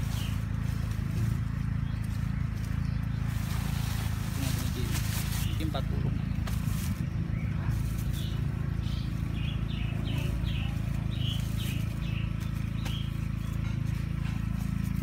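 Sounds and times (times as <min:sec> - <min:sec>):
small bird chirping: 0:00.0 - 0:14.9.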